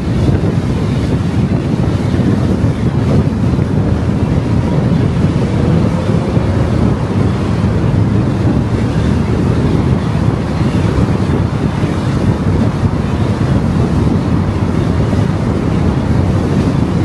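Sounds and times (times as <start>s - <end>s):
car road noise: 0.0s - 17.0s
wind rumbling on microphone: 0.0s - 17.0s.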